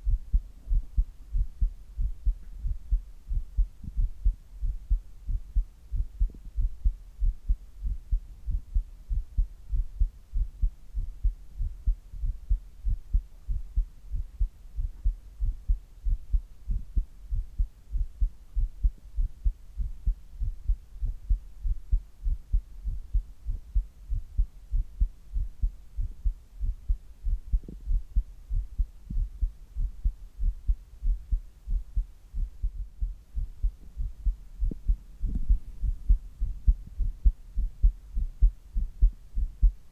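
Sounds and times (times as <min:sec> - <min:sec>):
heartbeat thudding: 0:00.0 - 0:39.9.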